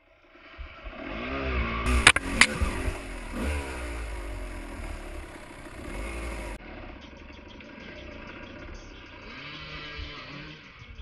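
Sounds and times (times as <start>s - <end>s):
dirt bike engine revving: 0.3s - 10.8s.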